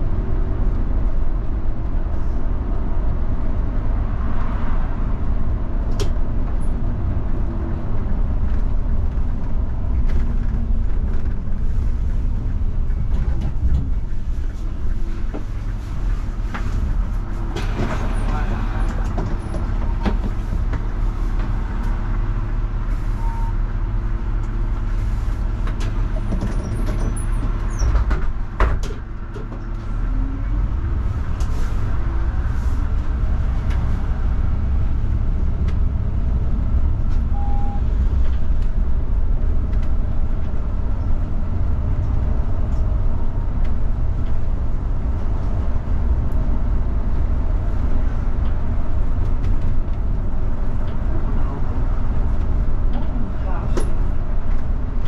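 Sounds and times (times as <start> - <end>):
bus engine running: 0.0 - 55.0
road noise: 0.0 - 55.0.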